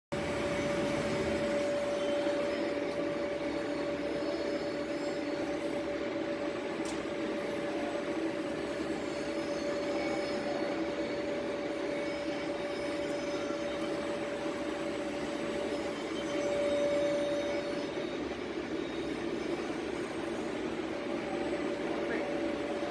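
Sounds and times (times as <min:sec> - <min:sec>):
machine humming and whining: 0:00.2 - 0:22.9.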